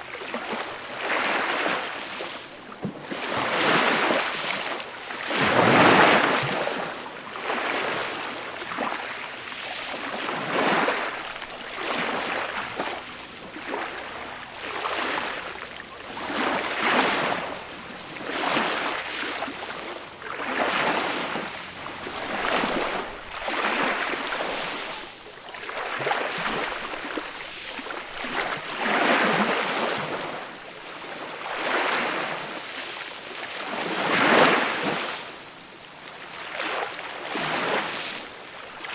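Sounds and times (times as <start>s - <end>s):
sea waves washing on a beach: 0.0s - 38.9s.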